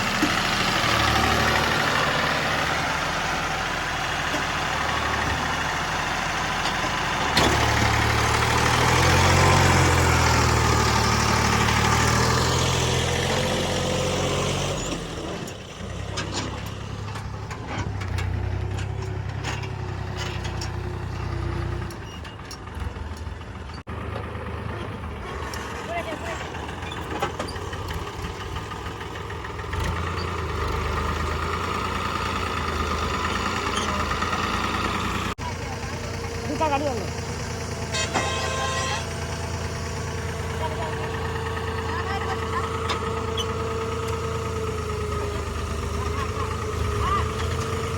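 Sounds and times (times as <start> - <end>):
heavy diesel engine revving: 0.0 - 22.0, 22.7 - 47.9.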